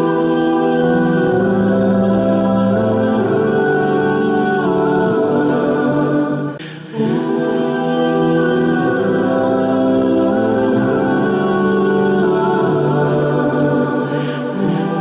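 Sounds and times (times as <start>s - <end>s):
wordless choir-like voices: 0.0s - 15.0s.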